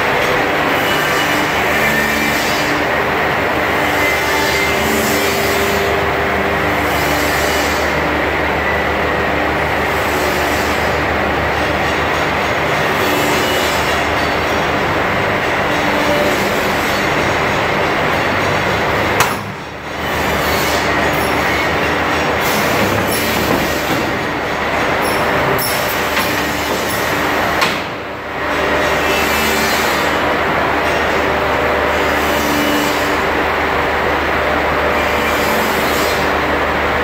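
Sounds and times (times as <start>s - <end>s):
woodworking machinery running: 0.0s - 37.0s.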